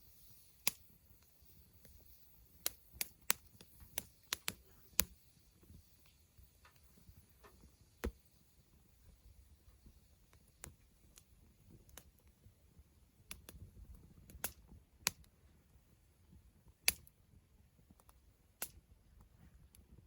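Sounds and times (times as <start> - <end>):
campfire crackling: 0.0 - 20.0
faint low hiss: 0.0 - 20.0.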